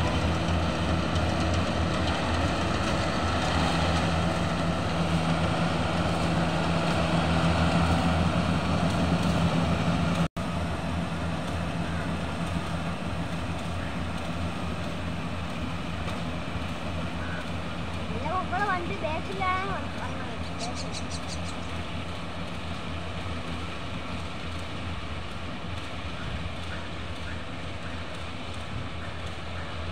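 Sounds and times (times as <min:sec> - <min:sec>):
combine harvester engine humming: 0:00.0 - 0:29.9.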